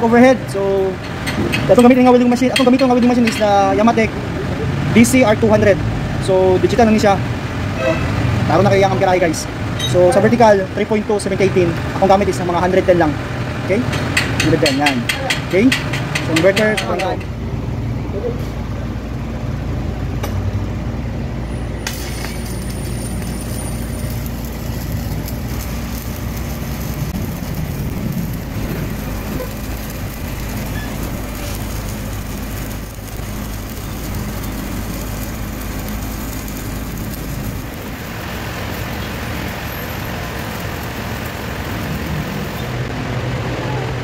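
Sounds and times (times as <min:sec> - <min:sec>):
welding arc crackling and hissing: 0:00.0 - 0:17.3, 0:21.2 - 0:43.5
low rumble of street traffic: 0:00.0 - 0:44.0.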